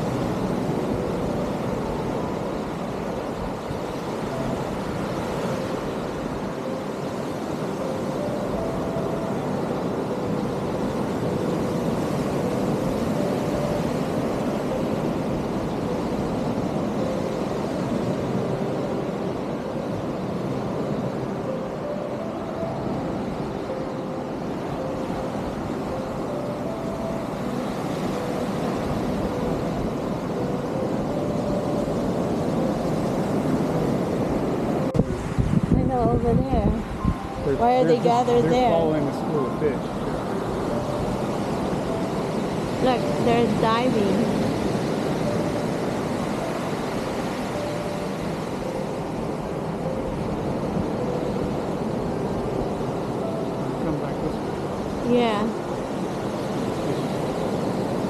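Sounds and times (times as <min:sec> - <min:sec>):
ocean surf roaring: 0:00.0 - 0:58.0
wind: 0:00.0 - 0:58.0.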